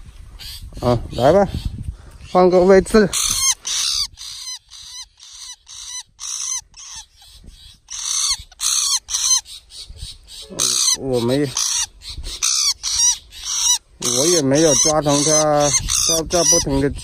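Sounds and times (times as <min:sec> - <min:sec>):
bird screaming in distress: 0:03.1 - 0:17.0.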